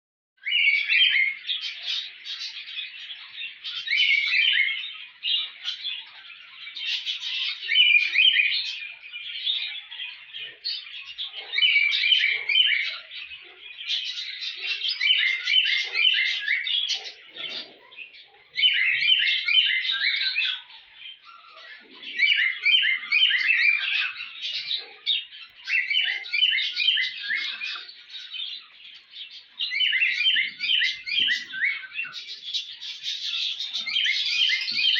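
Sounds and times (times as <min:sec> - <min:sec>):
bird chirping: 0:00.4 - 0:34.9.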